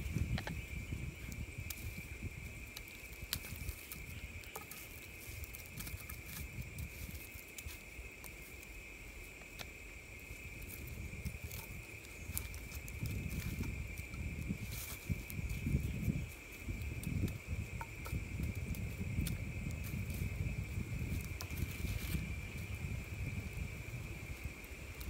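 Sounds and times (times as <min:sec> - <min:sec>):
campfire crackling and popping: 0:00.0 - 0:25.0
high-pitched insect drone: 0:00.0 - 0:25.0.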